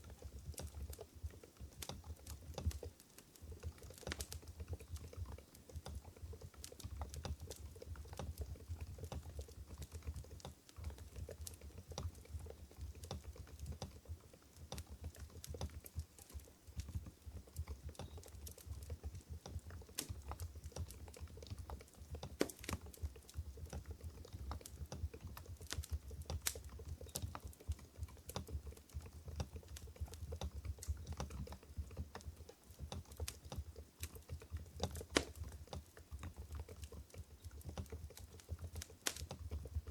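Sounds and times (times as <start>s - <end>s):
soft muted keyboard typing: 0.0s - 39.9s.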